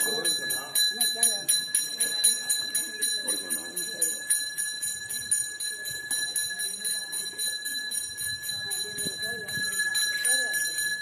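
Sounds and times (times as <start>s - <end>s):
bell ringing in fast rhythm: 0.0s - 11.0s.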